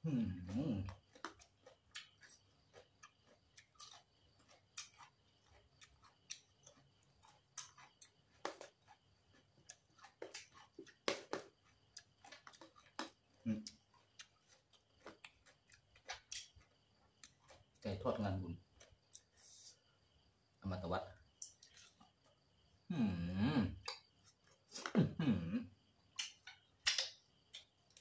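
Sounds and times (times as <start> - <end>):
chewing crunchy salad: 0.0 - 20.2, 21.2 - 22.7, 25.8 - 28.0.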